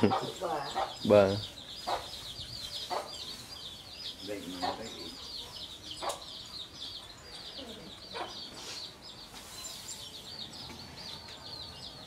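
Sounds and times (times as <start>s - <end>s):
chickens clucking: 0.0s - 11.5s
chickens peeping: 0.0s - 12.0s.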